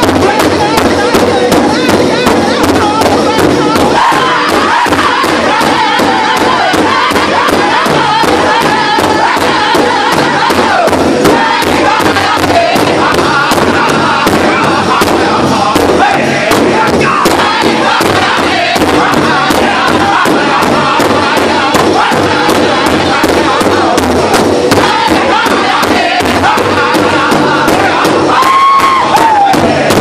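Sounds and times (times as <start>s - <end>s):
group singing loudly in unison: 0.0s - 30.0s
large hide drum beating: 0.0s - 30.0s.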